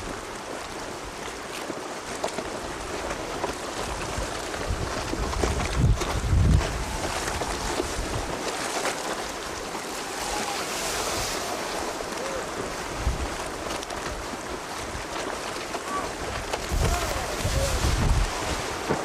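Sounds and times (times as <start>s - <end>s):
wind and choppy sea hiss: 0.0s - 19.0s
wind buffeting microphone: 2.5s - 19.0s.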